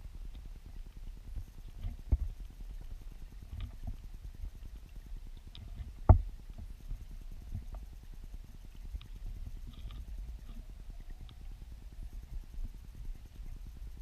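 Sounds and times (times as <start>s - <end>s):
muffled underwater river rumble: 0.0s - 14.0s.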